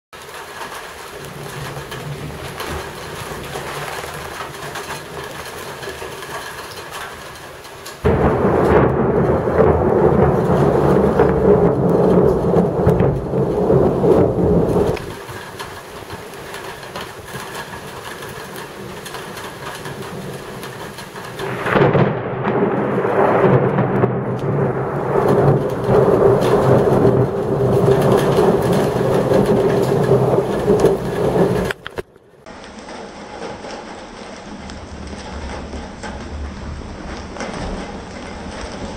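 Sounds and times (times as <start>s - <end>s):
steady rain: 0.1s - 38.9s
thunder rolling: 0.2s - 38.9s.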